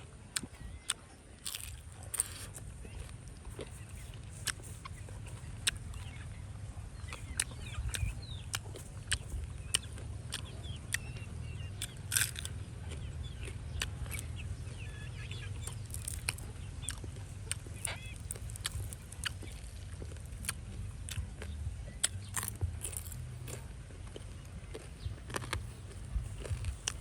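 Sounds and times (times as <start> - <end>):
steady low hum: 0.0 - 27.0
chickens clucking: 0.3 - 23.2.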